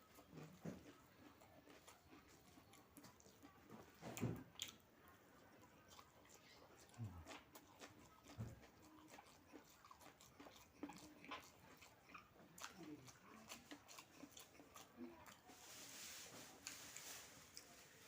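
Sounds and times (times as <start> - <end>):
person chewing: 0.0 - 4.8, 5.4 - 15.5.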